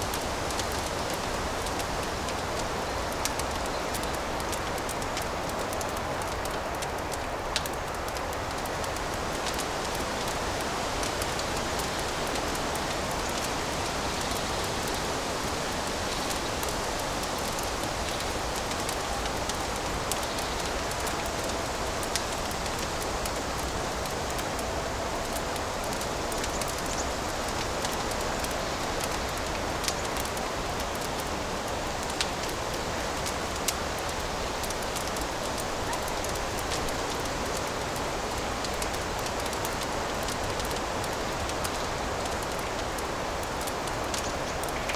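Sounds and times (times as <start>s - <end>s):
fire crackling and hissing: 0.0s - 44.9s.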